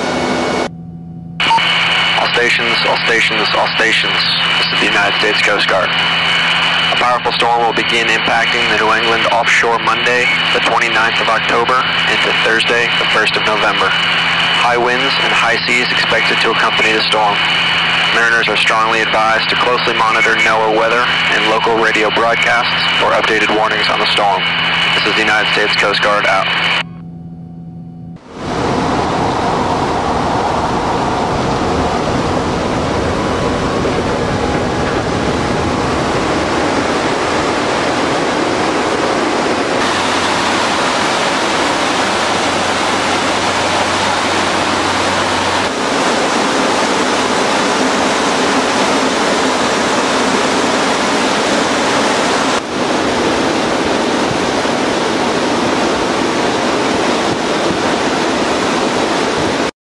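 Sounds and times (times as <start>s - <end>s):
low engine hum: 0.0s - 21.8s, 22.6s - 59.6s
turboprop engine noise: 0.0s - 59.7s
rush of airstream: 1.4s - 26.8s, 28.2s - 59.7s.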